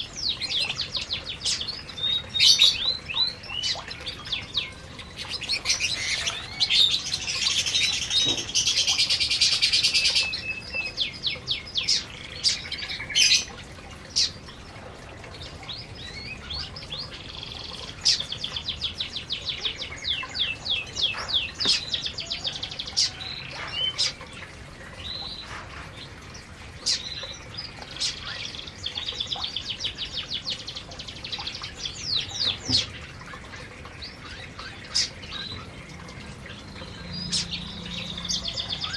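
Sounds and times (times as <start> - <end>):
canaries chirping and singing: 0.2 - 14.4, 15.7 - 26.1, 26.8 - 33.3, 34.0 - 38.9.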